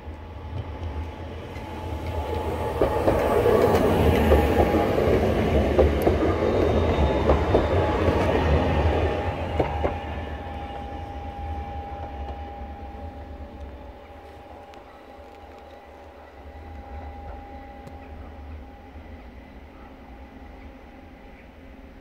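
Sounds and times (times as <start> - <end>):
electric train rumbling past: 0.0 - 22.0
thin steady whine: 0.0 - 22.0.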